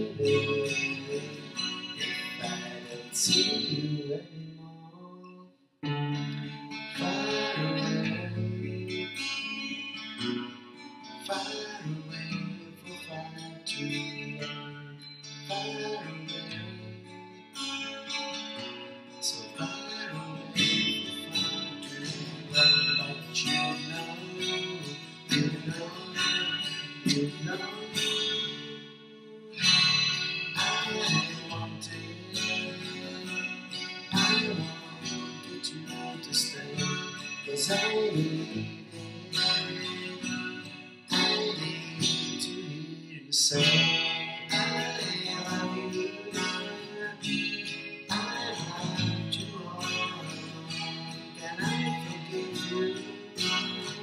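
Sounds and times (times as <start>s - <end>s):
acoustic guitar: 0.0s - 54.0s
man singing: 0.0s - 54.0s.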